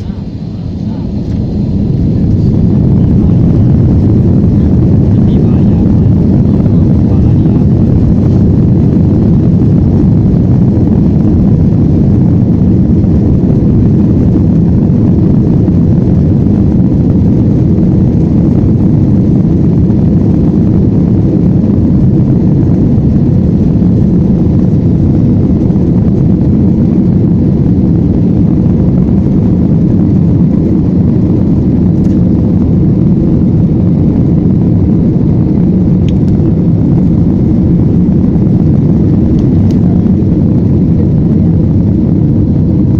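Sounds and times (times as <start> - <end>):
aircraft engine rumble: 0.0 - 42.9.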